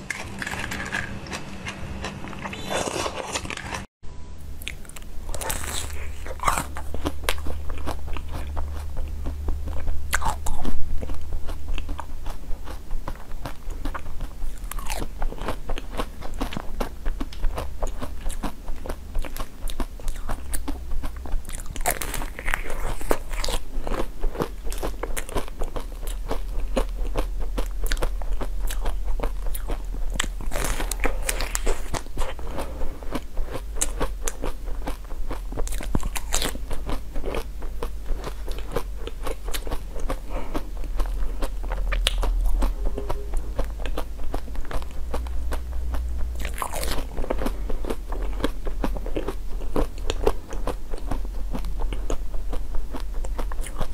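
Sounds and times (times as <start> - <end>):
chewing crunchy sweets: 0.0 - 3.9, 4.5 - 53.9
low steady hum: 0.0 - 53.9.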